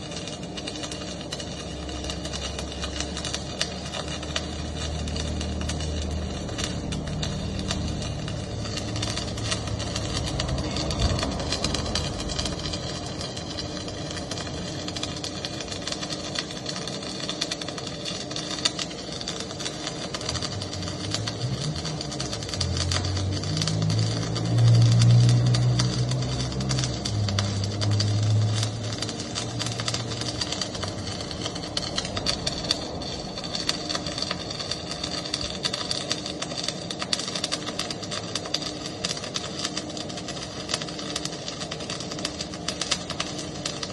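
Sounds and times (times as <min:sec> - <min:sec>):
arc welding crackle: 0:00.0 - 0:43.9.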